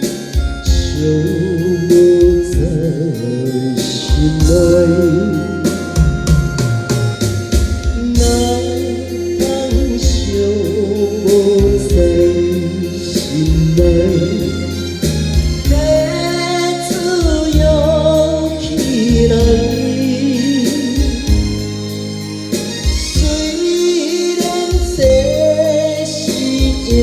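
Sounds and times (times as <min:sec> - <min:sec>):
karaoke backing track: 0:00.0 - 0:27.0
person singing a ballad: 0:00.0 - 0:27.0
steady drum beat: 0:00.0 - 0:27.0.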